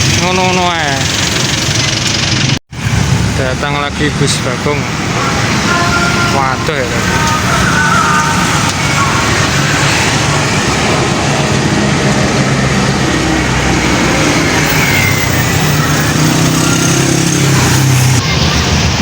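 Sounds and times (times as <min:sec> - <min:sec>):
bus engine running low: 0:00.0 - 0:19.0
tyre and traffic noise: 0:00.0 - 0:19.0.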